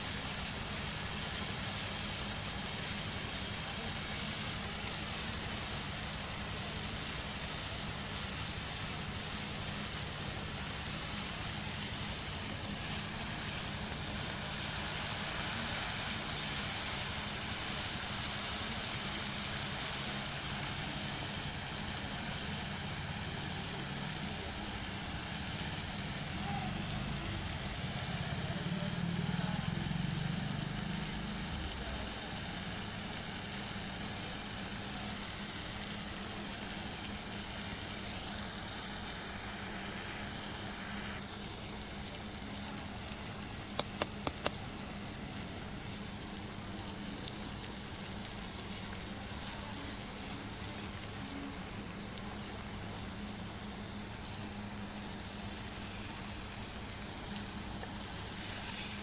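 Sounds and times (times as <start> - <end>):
eggs sizzling in a frying pan: 0.0 - 59.0.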